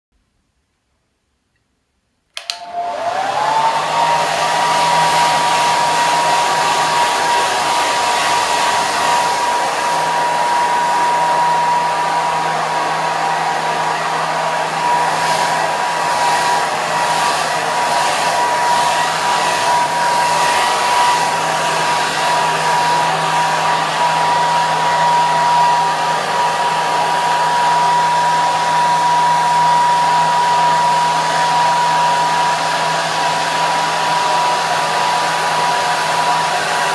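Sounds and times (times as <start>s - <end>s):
hair dryer running: 2.4s - 36.9s.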